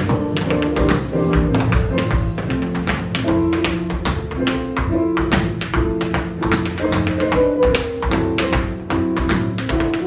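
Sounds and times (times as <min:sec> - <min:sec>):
jazz recording: 0:00.0 - 0:10.0
tap shoes on wooden floor: 0:00.0 - 0:10.0.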